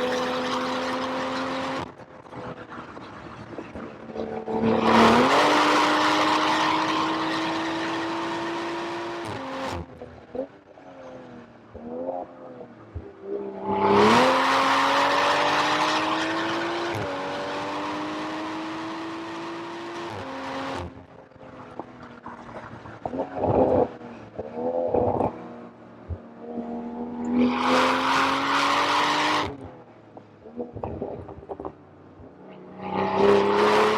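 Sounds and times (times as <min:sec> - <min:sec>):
car engine accelerating hard: 0:00.0 - 0:10.5, 0:13.3 - 0:25.7, 0:26.4 - 0:29.7, 0:32.6 - 0:33.9.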